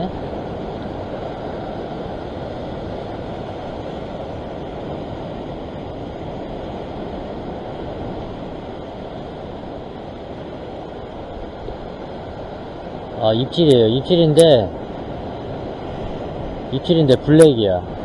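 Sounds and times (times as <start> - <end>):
surf washing against rocks: 0.0 - 18.0
wind on microphone: 0.0 - 18.0.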